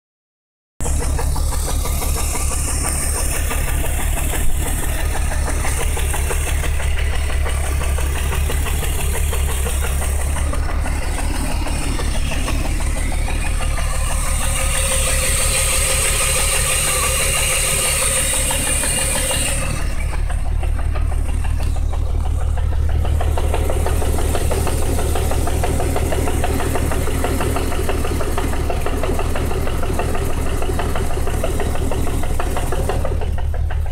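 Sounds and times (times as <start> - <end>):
car engine running: 0.8 - 33.9
rhythmic engine knocking: 0.8 - 33.9.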